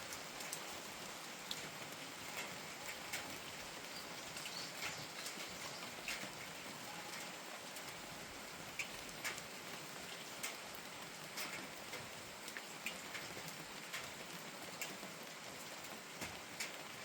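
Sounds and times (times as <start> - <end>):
steady rain falling: 0.0 - 17.0
single raindrops ticking: 0.1 - 0.6, 1.5 - 9.5, 10.1 - 15.1, 15.8 - 16.8.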